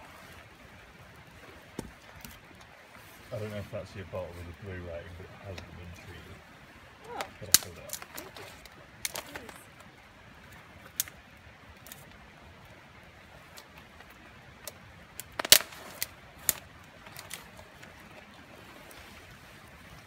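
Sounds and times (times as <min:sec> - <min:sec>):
campfire crackling and popping: 0:00.6 - 0:18.4.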